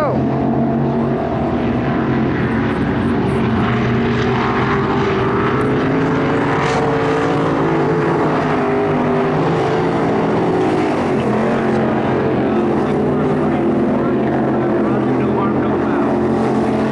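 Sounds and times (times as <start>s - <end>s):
racing engines droning: 0.0s - 16.9s.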